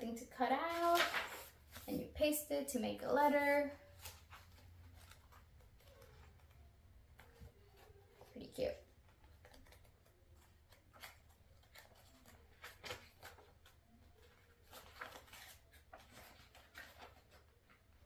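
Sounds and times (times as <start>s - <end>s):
paper pages turning: 0.5s - 2.1s, 3.8s - 18.0s.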